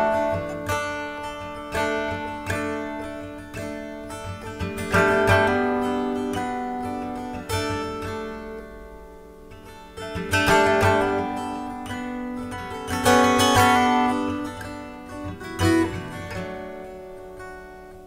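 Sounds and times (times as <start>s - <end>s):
acoustic guitar chords strummed: 0.0s - 18.0s.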